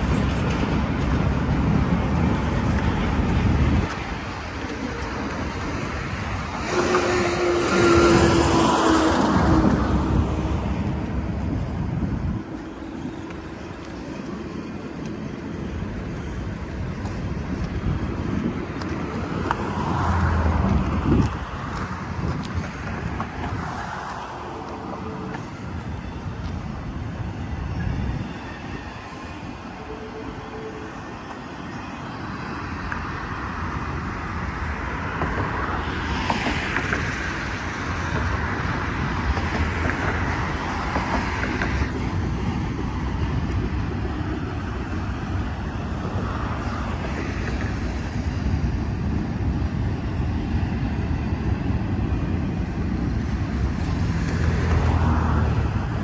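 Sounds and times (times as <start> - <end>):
freight train rolling: 0.0 - 56.0
wind on microphone: 0.0 - 56.0.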